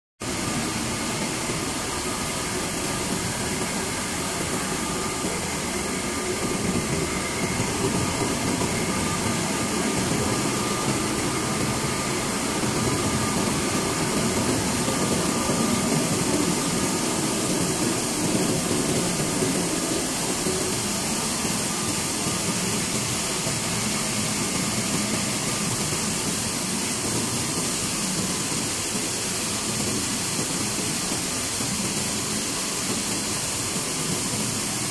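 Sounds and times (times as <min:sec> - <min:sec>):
mill machinery drone: 0:00.2 - 0:34.9.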